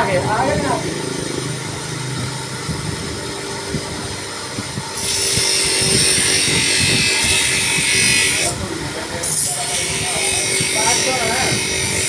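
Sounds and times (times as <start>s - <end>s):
power tool motor hum: 0.7s - 12.0s.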